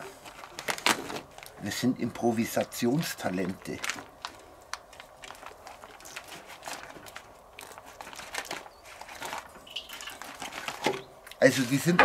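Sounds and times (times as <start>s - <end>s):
plastic packaging crinkling: 0.0s - 1.8s, 2.4s - 11.8s.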